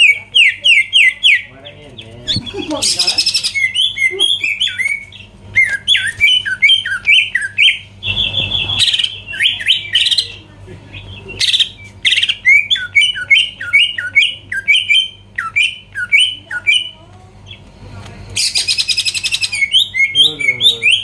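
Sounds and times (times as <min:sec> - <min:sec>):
bird buzzy rasping notes: 0:00.0 - 0:17.6.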